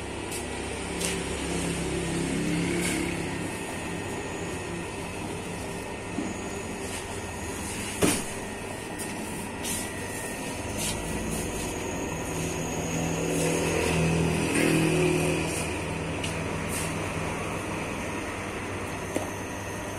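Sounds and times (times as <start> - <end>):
dough mixer drone: 0.0 - 19.9.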